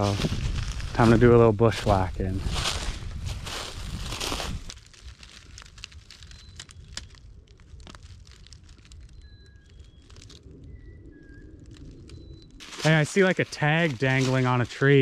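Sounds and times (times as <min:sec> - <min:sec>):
footsteps crunching through leaves: 0:00.0 - 0:10.4, 0:11.8 - 0:15.0
twigs snapping: 0:02.6 - 0:15.0.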